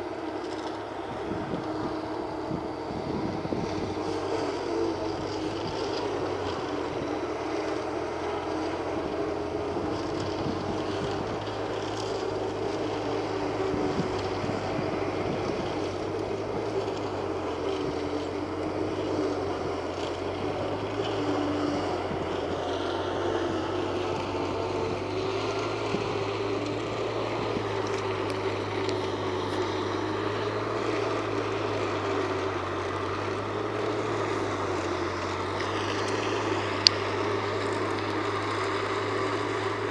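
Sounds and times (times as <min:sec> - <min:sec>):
harvester engine drone: 0:00.0 - 0:39.9.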